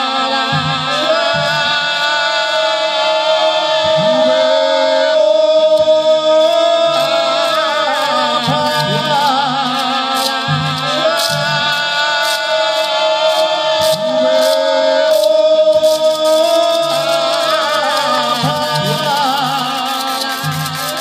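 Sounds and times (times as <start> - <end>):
man singing without words: 0.0 - 21.0.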